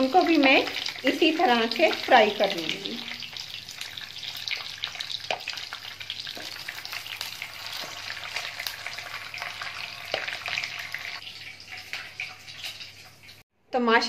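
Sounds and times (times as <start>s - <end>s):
meatballs sizzling in oil: 0.0s - 13.4s.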